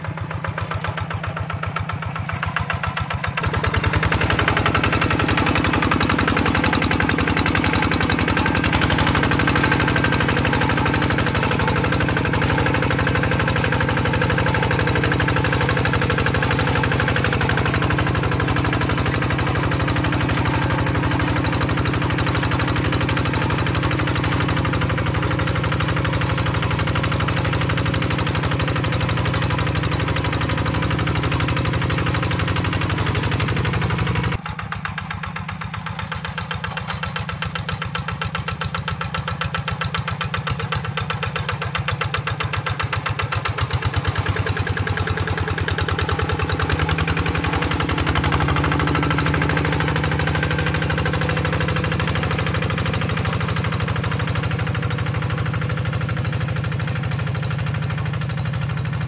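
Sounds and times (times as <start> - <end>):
diesel hand tractor engine running: 0.0 - 59.0.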